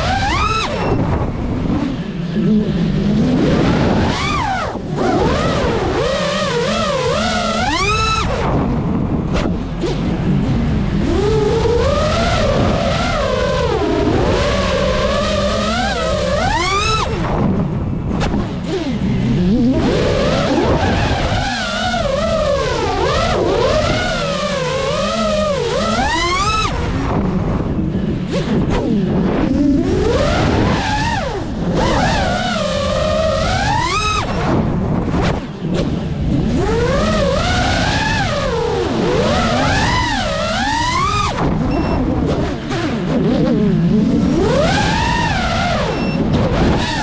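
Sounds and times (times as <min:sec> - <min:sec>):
steady low rumble: 0:00.0 - 0:25.9, 0:26.7 - 0:47.0
quadcopter motors whining: 0:00.0 - 0:47.0.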